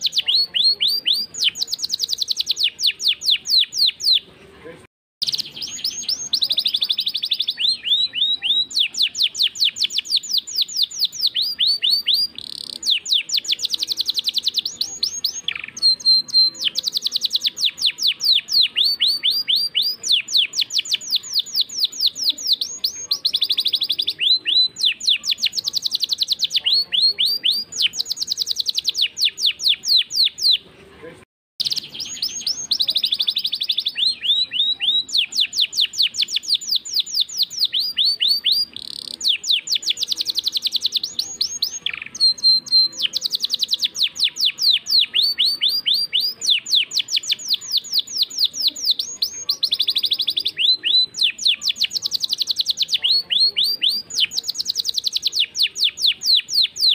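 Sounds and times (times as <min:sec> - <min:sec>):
canary singing trills: 0:00.0 - 0:04.3, 0:05.2 - 0:30.7, 0:31.6 - 0:56.9.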